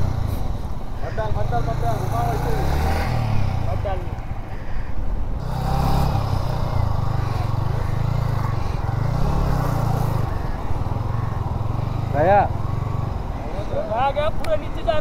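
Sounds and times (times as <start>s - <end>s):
motorcycle engine revving: 0.0s - 4.2s, 5.4s - 13.5s.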